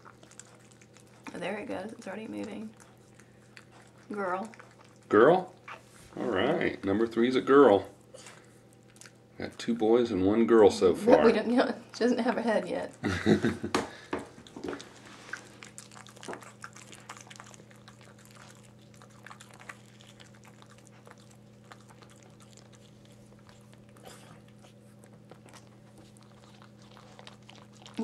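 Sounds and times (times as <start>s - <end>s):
dog licking and chewing: 0.0s - 10.7s, 14.2s - 28.0s
faint steady hum: 0.0s - 28.0s.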